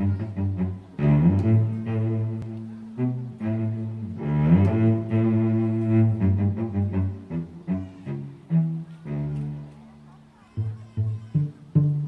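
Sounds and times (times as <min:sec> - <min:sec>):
low bowed strings music: 0:00.0 - 0:12.0.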